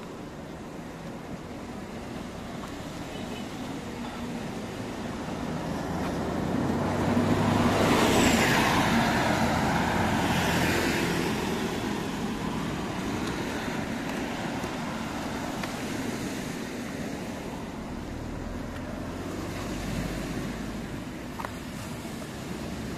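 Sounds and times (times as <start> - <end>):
background traffic noise: 0.0 - 22.9
vehicle passing: 2.0 - 16.6, 17.3 - 22.9.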